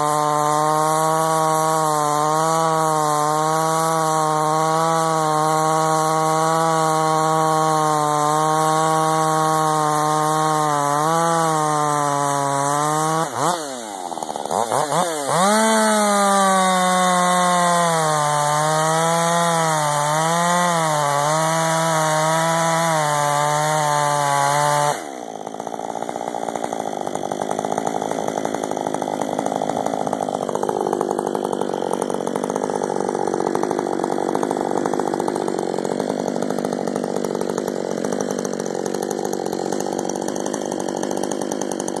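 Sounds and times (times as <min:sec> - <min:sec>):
chainsaw cutting through log: 0:00.0 - 0:42.0
chainsaw idling: 0:00.0 - 0:42.0.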